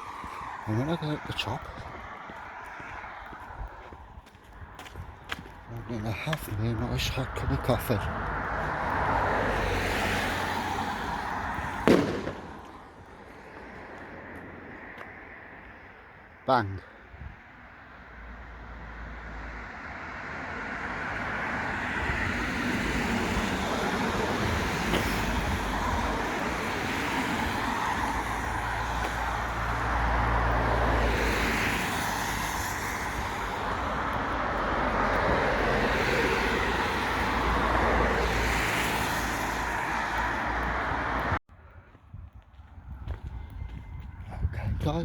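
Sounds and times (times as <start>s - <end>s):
cars passing: 0.0s - 44.2s.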